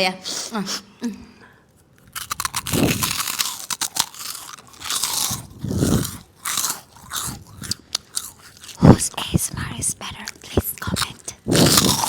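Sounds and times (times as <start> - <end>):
crunchy snack chewing: 2.0 - 12.0.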